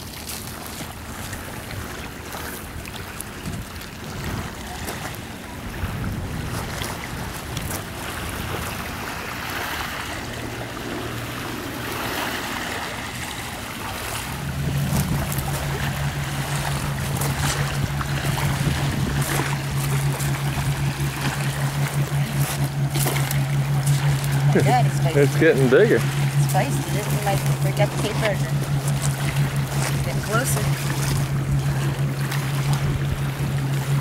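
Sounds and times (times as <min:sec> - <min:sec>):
motorboat engine drone: 0:00.0 - 0:34.0
waves lapping on pebbles: 0:00.0 - 0:34.0
wind: 0:00.0 - 0:34.0.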